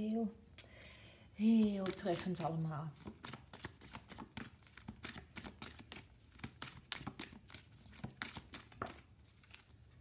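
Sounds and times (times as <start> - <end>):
cards shuffling: 1.8 - 10.0.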